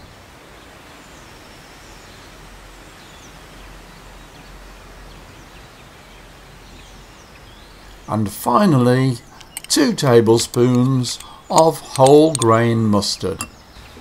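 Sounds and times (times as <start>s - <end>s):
faint bird chirps: 0.0s - 14.0s
outdoor background noise: 0.0s - 14.0s.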